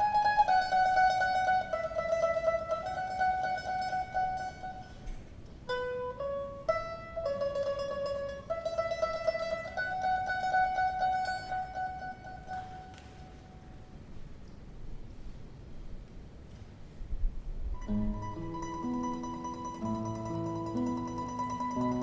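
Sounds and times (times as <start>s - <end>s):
mandolin orchestra playing: 0.0s - 13.7s, 17.8s - 22.0s.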